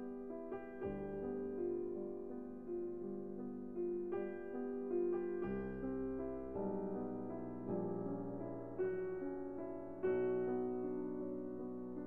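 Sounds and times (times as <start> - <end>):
soft piano melody: 0.0 - 12.0.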